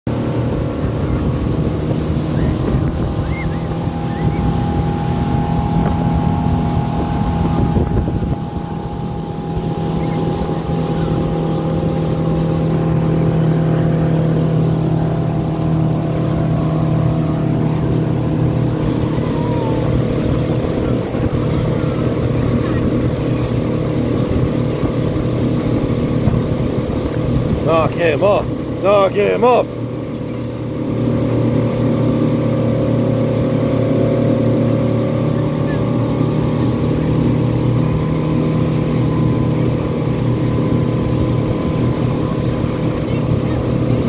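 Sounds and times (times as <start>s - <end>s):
boat motor humming: 0.1s - 44.0s
wake rushing and churning: 0.1s - 44.0s.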